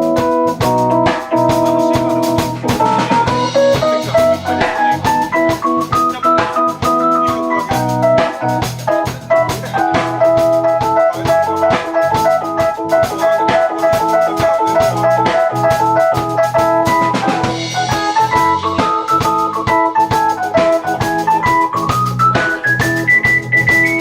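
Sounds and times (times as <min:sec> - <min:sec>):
bass: 0:00.0 - 0:24.0
drum kit beat: 0:00.0 - 0:24.0
keyboard melody: 0:00.0 - 0:24.0.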